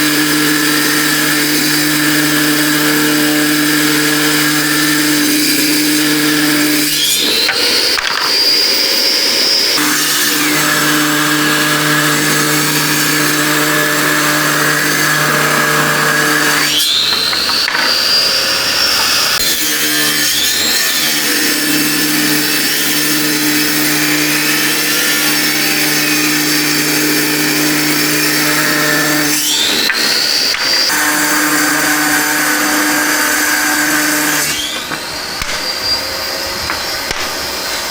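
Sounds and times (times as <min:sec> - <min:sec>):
high tool whine: 0:00.0 - 0:37.9
power tools humming: 0:00.0 - 0:37.9.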